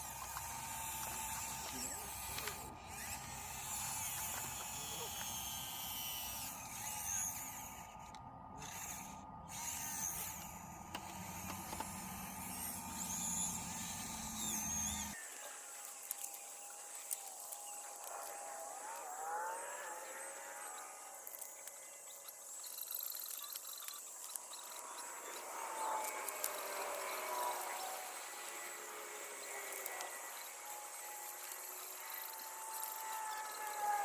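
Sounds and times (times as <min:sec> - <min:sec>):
toy excavator motors whirring: 0:00.0 - 0:34.0.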